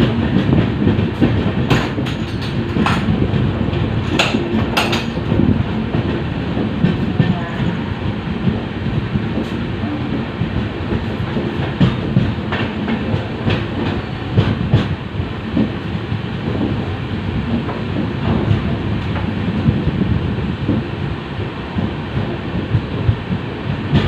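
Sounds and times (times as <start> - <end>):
wheels clacking over rail joints: 0.0 - 20.9
rumble of wheels on rail: 0.0 - 24.0.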